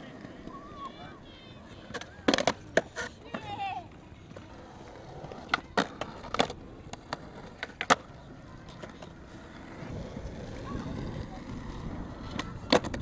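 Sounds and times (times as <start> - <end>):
skateboard wheels rolling on concrete: 0.0 - 13.0
skateboard clacking on ground: 1.6 - 13.0.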